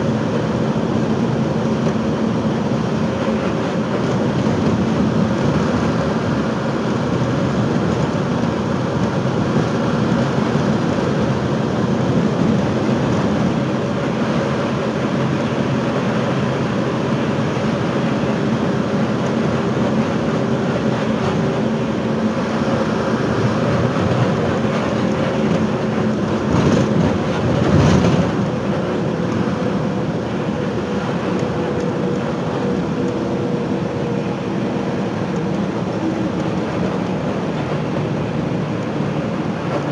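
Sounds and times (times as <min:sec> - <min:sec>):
bus engine running: 0:00.0 - 0:39.9
road and cabin noise: 0:00.0 - 0:39.9.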